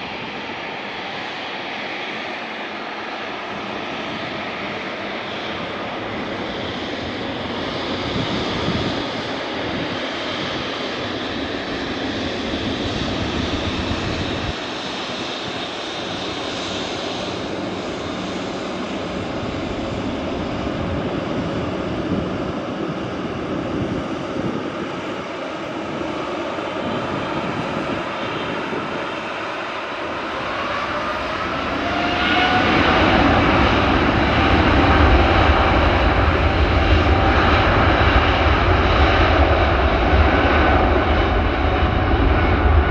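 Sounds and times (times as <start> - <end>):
jet engine spooling up whine: 0.0 - 42.9
jet engines rumbling: 0.0 - 42.9.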